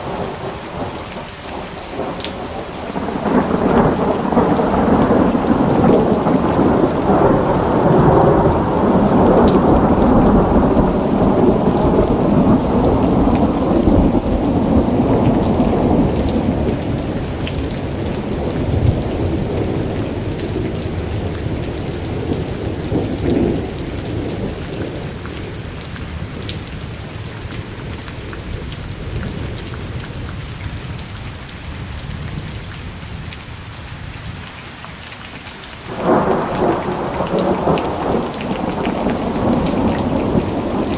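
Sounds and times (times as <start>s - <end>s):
rolling thunder: 0.0s - 30.0s, 35.9s - 40.9s
steady rain: 0.0s - 40.9s.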